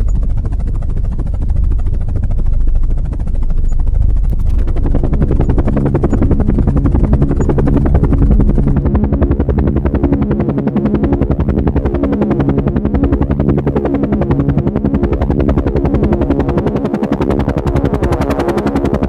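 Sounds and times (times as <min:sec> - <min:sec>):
helicopter rotors beating: 0:00.0 - 0:19.0
steady hum: 0:00.0 - 0:19.0.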